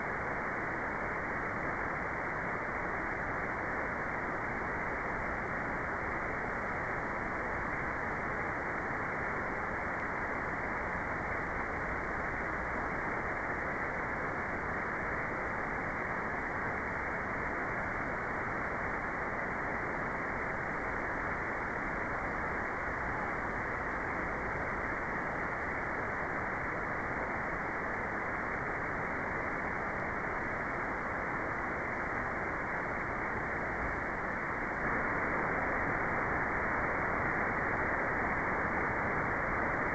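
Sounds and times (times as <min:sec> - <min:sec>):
dull white noise hiss: 0:00.0 - 0:39.9.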